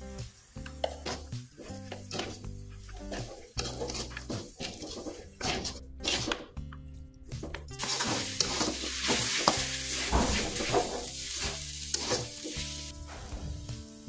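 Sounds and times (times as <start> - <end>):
food sizzling in a wok: 0.0 - 6.4, 7.3 - 14.0
metal tongs scraping a pan: 0.7 - 6.6, 7.4 - 12.9.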